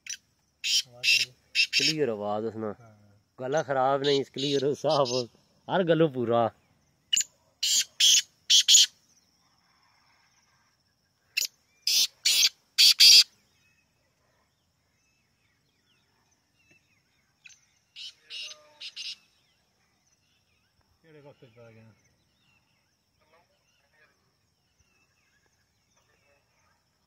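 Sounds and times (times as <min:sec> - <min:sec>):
bird calling with rasping notes: 0:00.0 - 0:02.7, 0:03.4 - 0:06.0, 0:06.6 - 0:14.0, 0:14.9 - 0:23.9.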